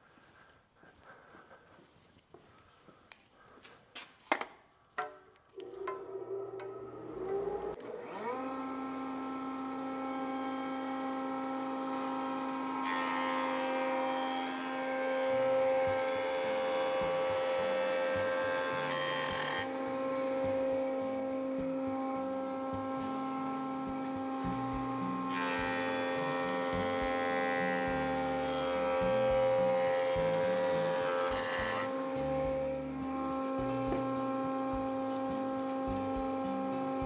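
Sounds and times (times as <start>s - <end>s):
planer cutting wood: 5.6s - 37.0s
thickness planer running: 5.7s - 37.0s.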